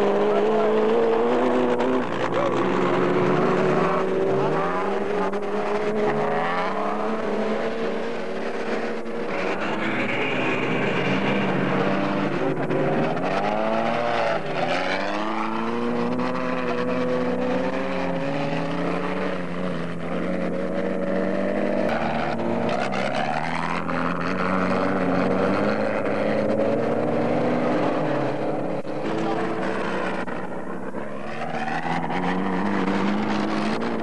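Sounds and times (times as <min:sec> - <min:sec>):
race car engine revving: 0:00.0 - 0:34.0
tyres rumbling on dirt: 0:00.0 - 0:34.0.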